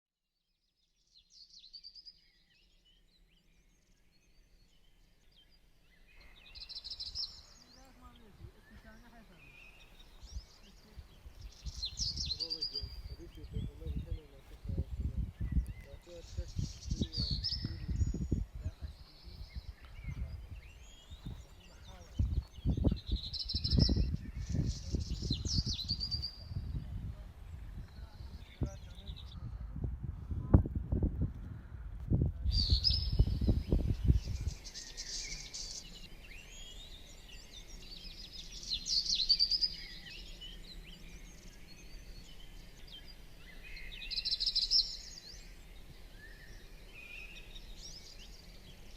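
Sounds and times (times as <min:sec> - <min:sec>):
small birds chirping: 0:00.4 - 0:48.9.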